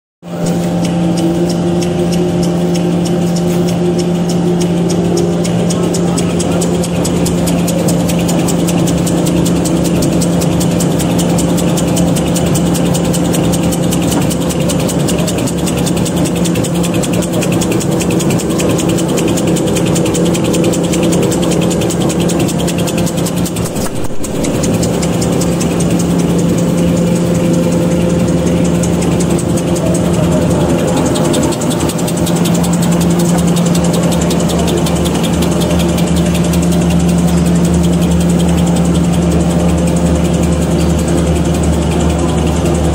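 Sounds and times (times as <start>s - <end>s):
machine hum: 0.2s - 42.9s
rapid mechanical clatter of rollers: 0.2s - 42.9s.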